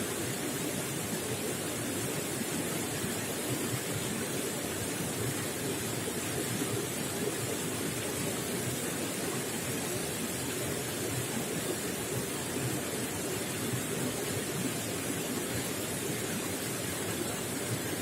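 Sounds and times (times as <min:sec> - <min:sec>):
running water gurgling: 0:00.0 - 0:18.0.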